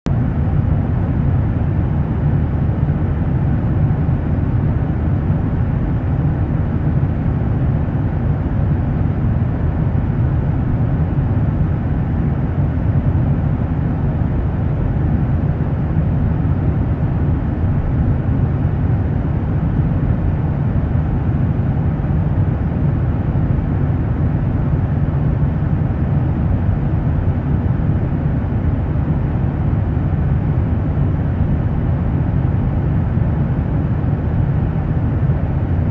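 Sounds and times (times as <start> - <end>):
jet aircraft rumble: 0.1 - 35.9.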